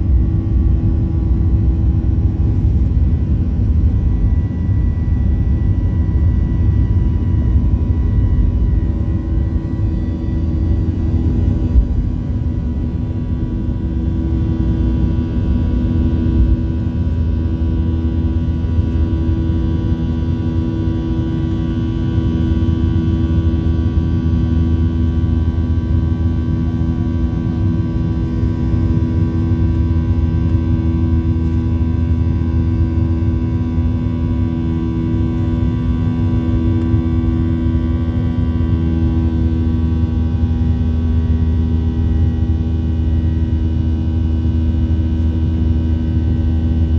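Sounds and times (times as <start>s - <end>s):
jet engines at takeoff in cabin: 0.0s - 46.9s.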